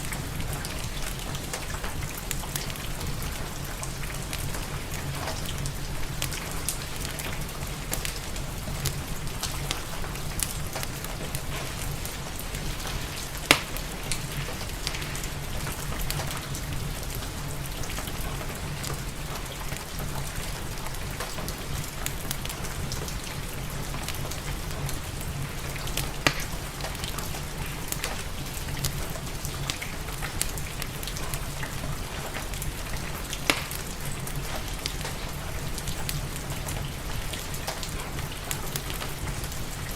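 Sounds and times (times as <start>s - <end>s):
fireplace crackling: 0.0s - 39.9s
steady rain: 0.0s - 39.9s.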